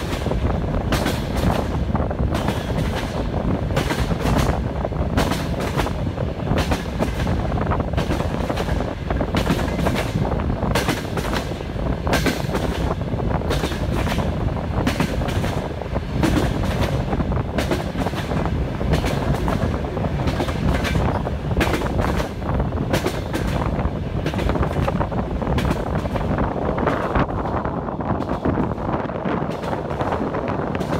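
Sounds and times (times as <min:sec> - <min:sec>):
train wheels clattering over joints: 0:00.0 - 0:27.4
rumble of moving carriage: 0:00.0 - 0:30.9.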